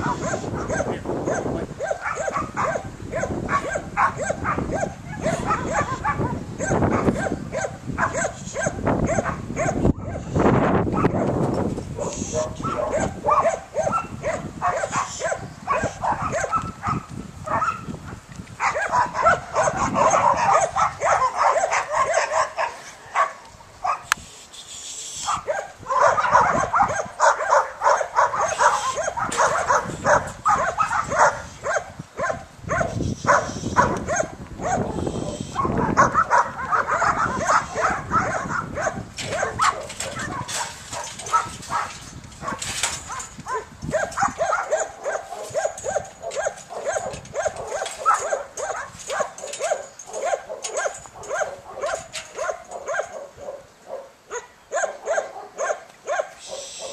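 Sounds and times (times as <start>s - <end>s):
dog barking rapidly: 0.0s - 11.4s, 12.0s - 24.1s, 25.2s - 56.9s.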